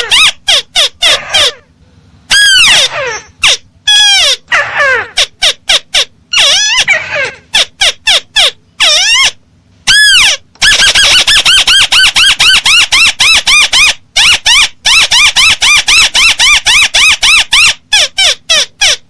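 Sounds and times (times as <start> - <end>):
crake call recording: 0.0 - 19.0.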